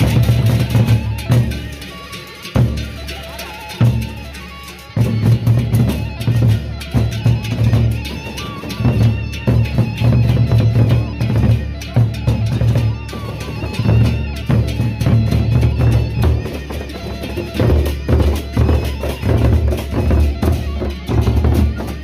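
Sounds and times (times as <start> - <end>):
barrel drums beating: 0.0 - 22.0
gamelan percussion: 0.0 - 22.0.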